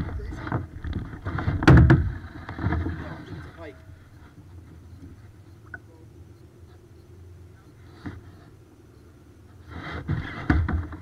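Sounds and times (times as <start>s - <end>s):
kayak rumble on water: 0.0s - 11.0s.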